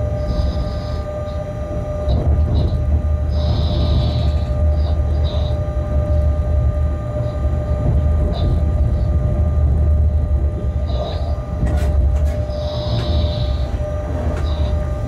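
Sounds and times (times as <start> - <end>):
constant whine: 0.0 - 15.0
locomotive rumble: 0.0 - 15.0.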